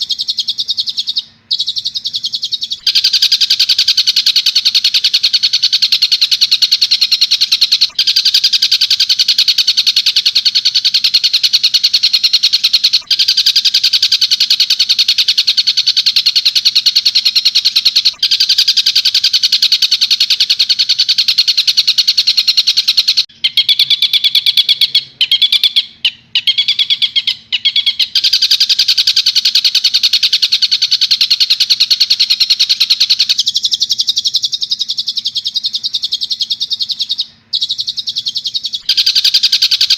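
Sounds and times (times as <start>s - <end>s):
bird chattering trill: 0.0s - 39.9s.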